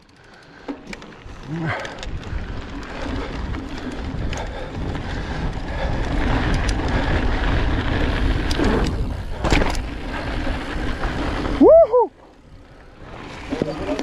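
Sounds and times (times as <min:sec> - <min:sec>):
tyres rolling on dirt: 0:00.0 - 0:14.0.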